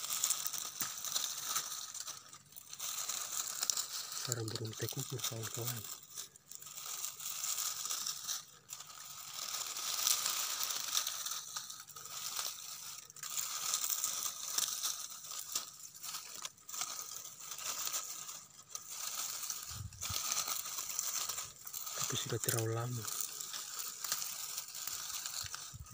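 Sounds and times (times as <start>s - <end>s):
dry leaves and twigs crackling: 0.0s - 25.9s.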